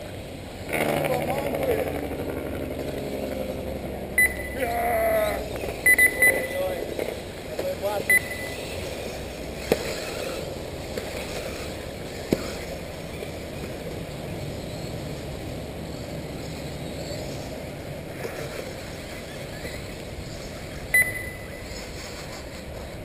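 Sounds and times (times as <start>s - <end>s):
rc buggy motors and tyres: 0.0s - 23.0s.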